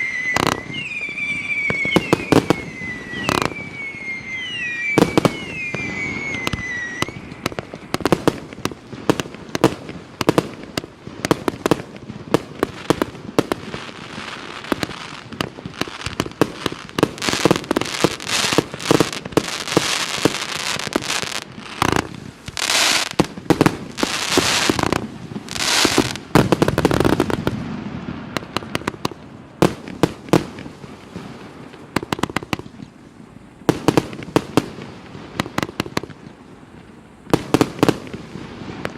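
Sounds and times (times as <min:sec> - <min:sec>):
falling firework whistles: 0:00.0 - 0:38.9
fireworks bangs: 0:00.0 - 0:38.9.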